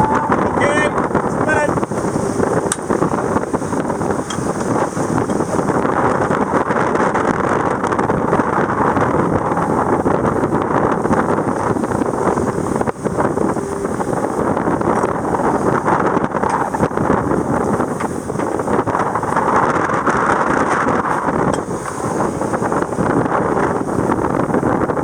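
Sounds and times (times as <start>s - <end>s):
sea washing: 0.0s - 25.0s
wind buffeting microphone: 0.0s - 25.0s.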